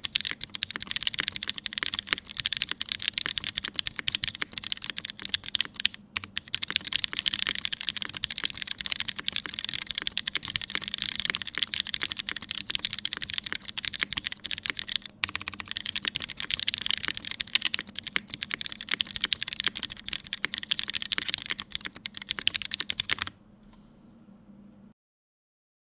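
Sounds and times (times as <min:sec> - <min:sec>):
mechanical keyboard typing: 0:00.0 - 0:23.3.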